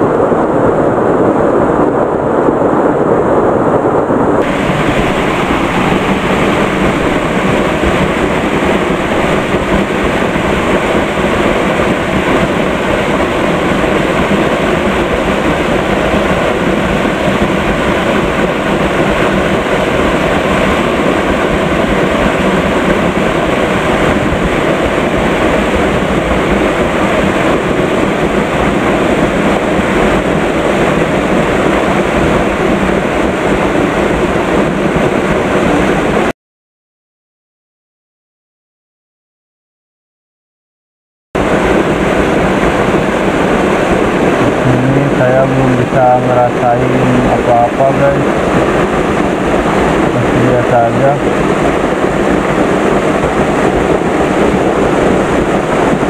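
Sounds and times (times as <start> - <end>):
waterfall roaring: 4.4 - 36.3, 41.4 - 56.0.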